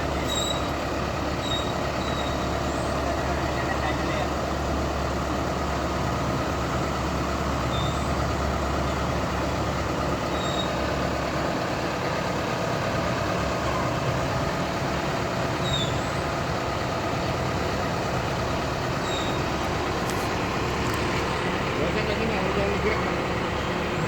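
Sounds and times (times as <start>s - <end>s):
harvester engine running: 0.0s - 24.0s.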